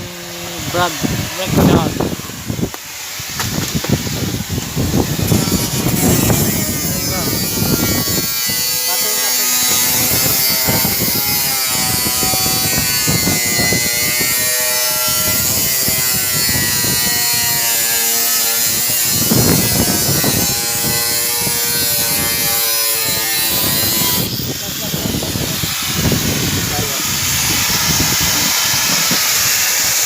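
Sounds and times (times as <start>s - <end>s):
mechanical buzz and hum: 0.0s - 30.0s.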